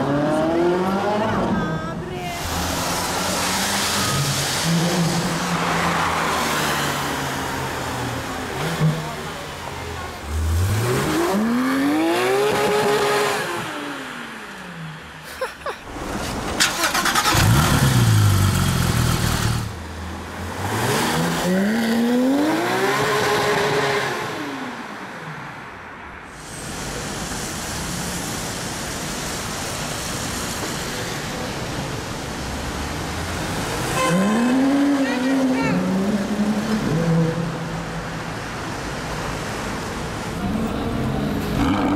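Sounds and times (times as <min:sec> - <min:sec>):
supercar engines revving: 0:00.0 - 0:15.2, 0:15.9 - 0:25.2, 0:26.6 - 0:41.9
traffic noise: 0:00.0 - 0:41.9.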